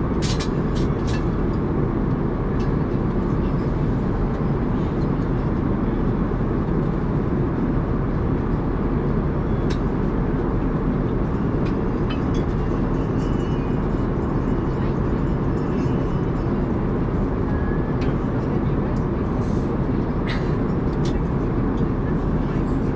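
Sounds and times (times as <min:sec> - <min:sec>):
airliner cabin drone: 0:00.0 - 0:22.9.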